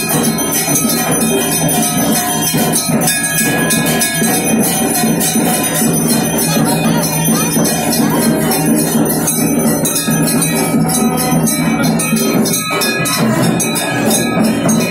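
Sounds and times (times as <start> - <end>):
bells ringing rapidly: 0.0 - 14.9.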